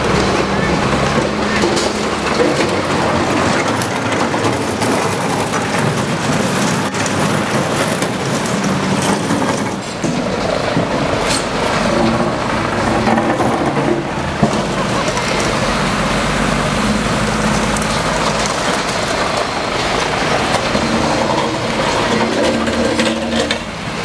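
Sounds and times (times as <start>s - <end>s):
debris scraping along street: 0.0s - 24.0s.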